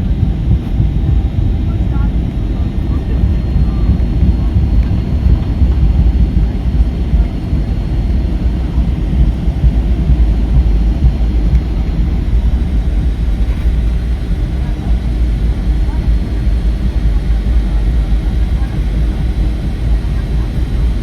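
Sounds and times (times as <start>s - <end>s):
aircraft cabin engine rumble: 0.0s - 21.0s.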